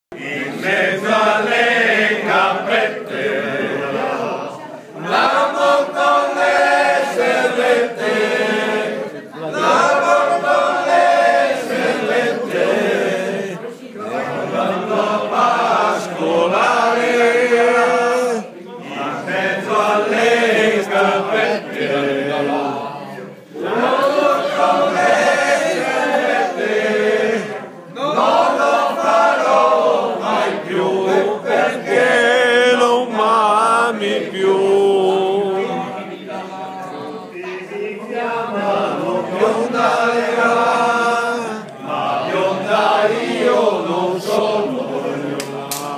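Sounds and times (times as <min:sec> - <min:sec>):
group singing unaccompanied: 0:00.1 - 0:45.9.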